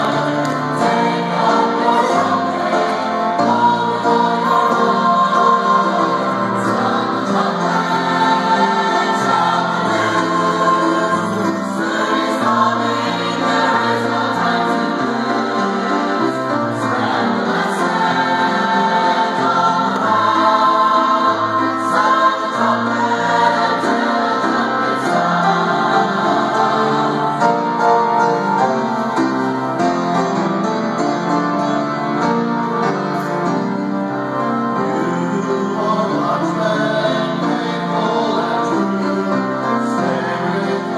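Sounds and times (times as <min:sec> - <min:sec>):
instrumental accompaniment: 0:00.0 - 0:40.9
mixed choir singing: 0:00.0 - 0:40.9.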